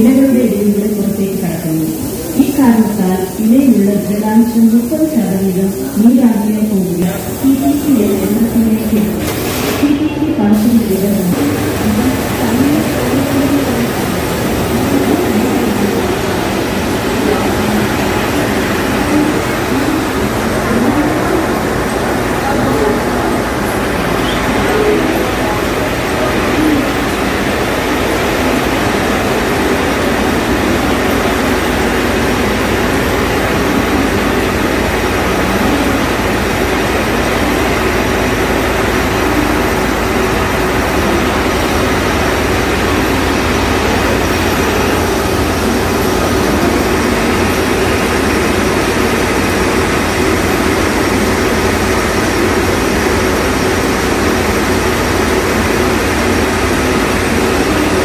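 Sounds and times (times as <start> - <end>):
processing machines running: 0.0 - 58.0.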